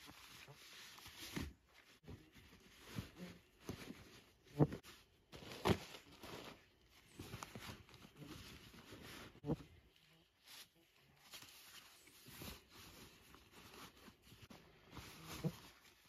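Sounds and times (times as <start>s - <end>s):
fabric and nylon sacks rustling: 0.0s - 16.0s.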